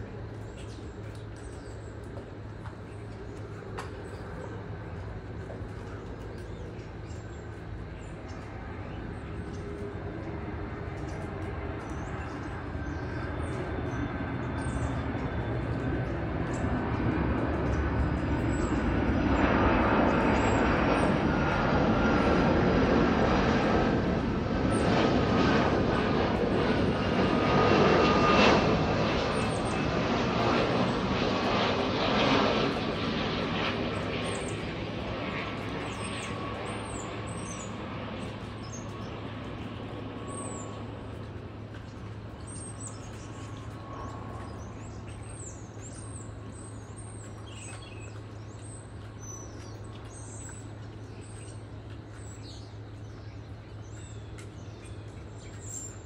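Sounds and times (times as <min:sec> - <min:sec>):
jet passing overhead: 0:02.0 - 0:50.9.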